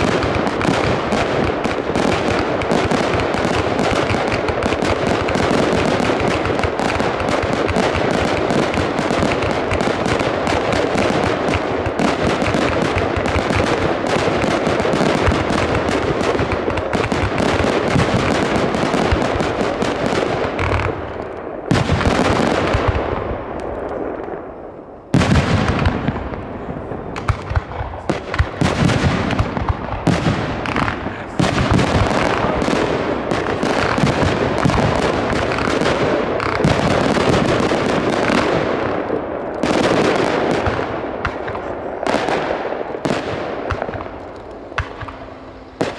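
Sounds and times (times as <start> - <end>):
fireworks bursting and crackling: 0.0 - 45.9
loud firework bangs: 0.0 - 45.9.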